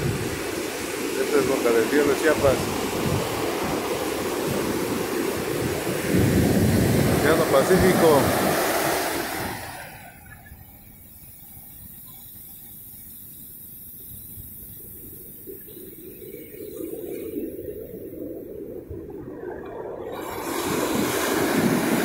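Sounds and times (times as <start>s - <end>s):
surf breaking on a beach: 0.0s - 12.4s, 14.0s - 22.0s.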